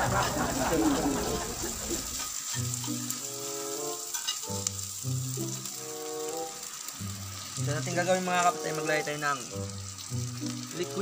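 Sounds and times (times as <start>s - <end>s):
background music: 0.0s - 11.0s
meat and onions sizzling in pan: 0.0s - 11.0s.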